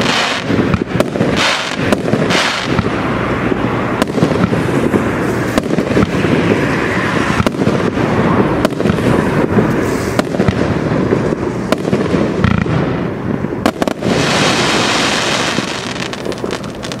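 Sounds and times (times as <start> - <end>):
firework crackle and rumble: 0.0 - 17.0
loud hissing crackle: 0.0 - 17.0
sharp firework bangs: 0.0 - 17.0.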